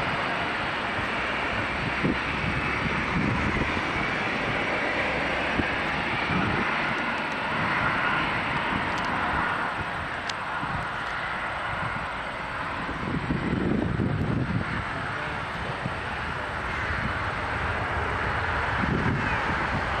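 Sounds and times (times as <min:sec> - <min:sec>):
jet airliner engines rushing: 0:00.0 - 0:20.0.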